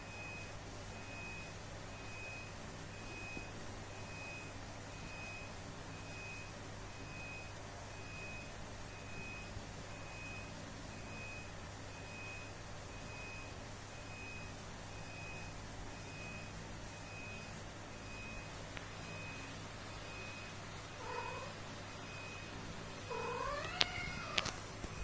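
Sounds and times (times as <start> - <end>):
reversing alarm beeping: 0.2 - 25.0.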